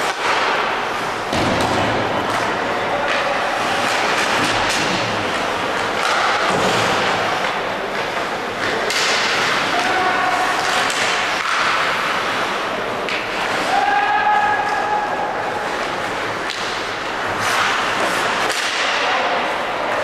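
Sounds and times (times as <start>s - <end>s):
puck and sticks hitting boards: 0.0s - 20.0s.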